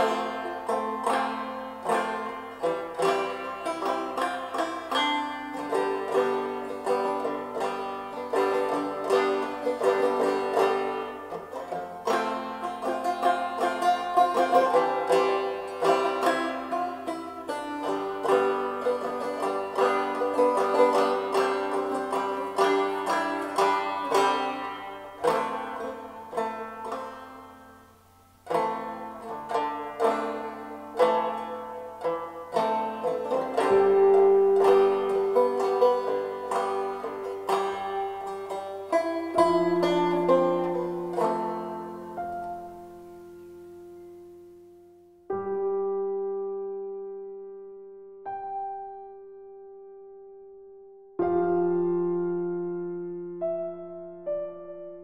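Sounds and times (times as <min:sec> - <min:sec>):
plucked string music: 0:00.0 - 0:55.0.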